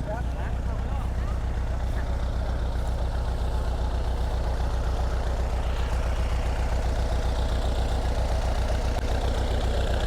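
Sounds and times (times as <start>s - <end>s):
vehicle engine low throb: 0.0s - 10.0s.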